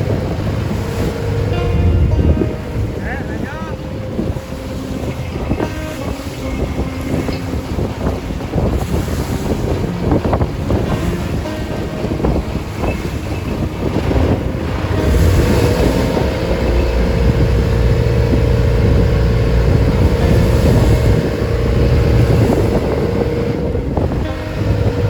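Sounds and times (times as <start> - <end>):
boat engine humming: 0.0 - 25.0
waves around hull: 0.0 - 25.0
wind buffeting microphone: 0.0 - 25.0.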